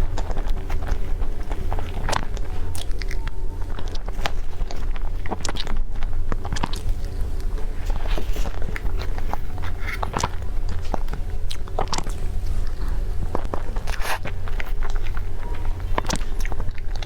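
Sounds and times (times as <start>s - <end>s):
person chewing and biting: 0.0s - 17.0s
steady low hum: 0.0s - 17.0s.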